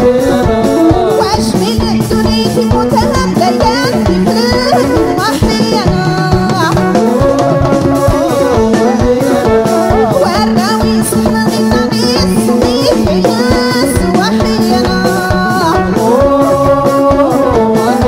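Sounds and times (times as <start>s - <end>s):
hand drums beating: 0.0s - 18.0s
woman singing: 0.0s - 18.0s.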